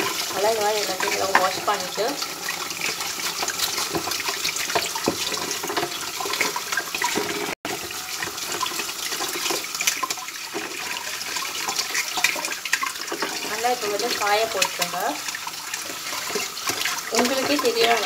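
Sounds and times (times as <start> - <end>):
water splashing: 0.0 - 18.0.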